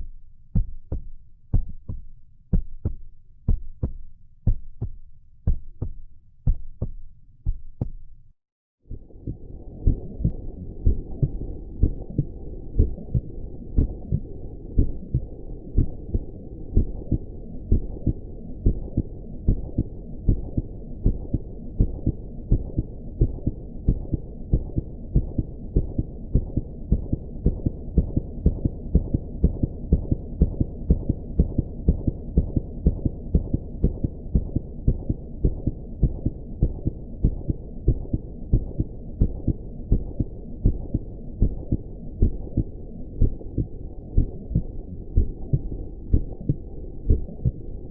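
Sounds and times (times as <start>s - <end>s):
heartbeat thumps: 0.0s - 8.1s, 9.2s - 47.9s
low rumble: 0.0s - 47.9s.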